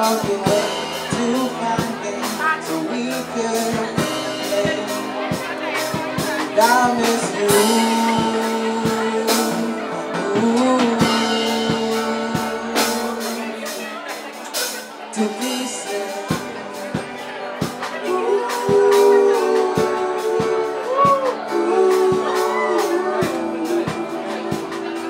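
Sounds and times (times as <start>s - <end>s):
drum kit and cymbals: 0.0s - 25.0s
long held bending melodic notes: 0.0s - 25.0s.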